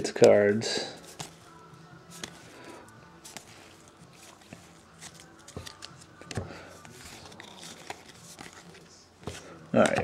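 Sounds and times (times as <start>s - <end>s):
trading cards clicking and rustling: 1.0s - 10.0s.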